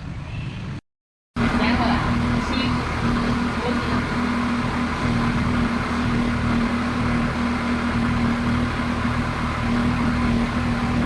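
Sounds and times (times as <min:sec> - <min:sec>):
machine humming: 0:01.4 - 0:11.0.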